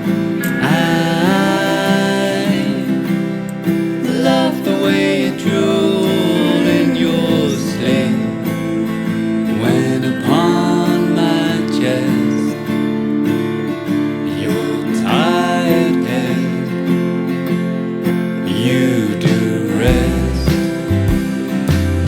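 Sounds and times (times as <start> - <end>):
person singing: 0.0 - 13.1, 14.2 - 17.3, 18.4 - 22.0
acoustic guitar strumming: 0.0 - 22.0.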